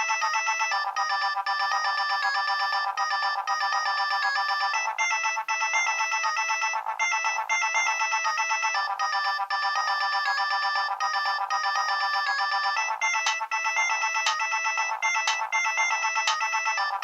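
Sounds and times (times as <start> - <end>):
mobile phone ringtone: 0.0 - 17.0.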